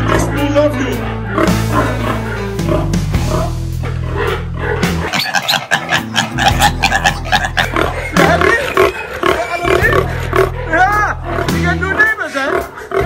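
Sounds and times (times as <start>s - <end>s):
pigs grunting and squealing: 0.0s - 13.0s.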